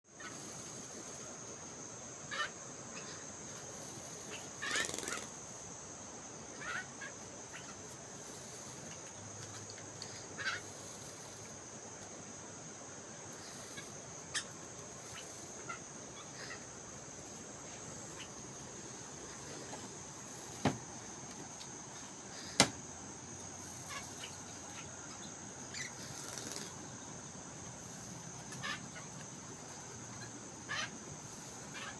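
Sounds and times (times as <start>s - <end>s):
starling chirping: 0.1s - 1.4s, 2.1s - 5.8s, 6.5s - 11.6s, 13.3s - 20.8s, 23.3s - 31.9s.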